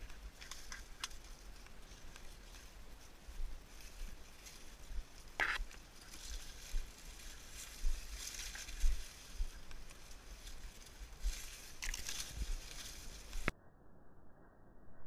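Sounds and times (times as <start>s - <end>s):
corn stalks rustling and scraping: 0.0s - 13.5s.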